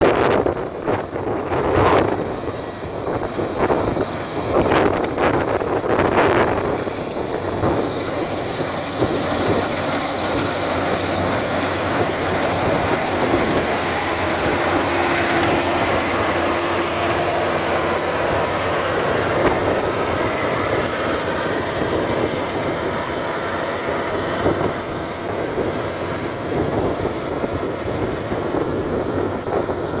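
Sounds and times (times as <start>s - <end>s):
combine harvester running: 0.0s - 30.0s.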